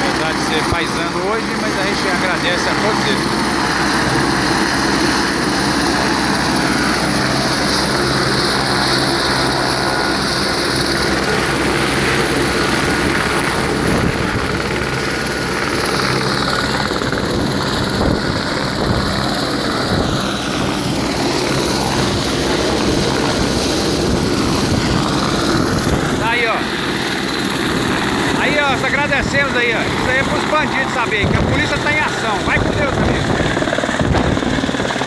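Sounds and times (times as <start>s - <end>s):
helicopter rotor and turbine: 0.0s - 35.0s.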